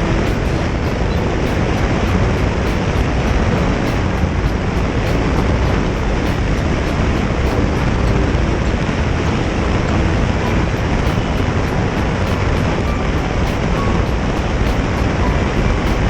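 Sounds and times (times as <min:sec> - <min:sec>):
motorcycle engine and road noise: 0:00.0 - 0:16.0
wind rush over microphone: 0:00.0 - 0:16.0.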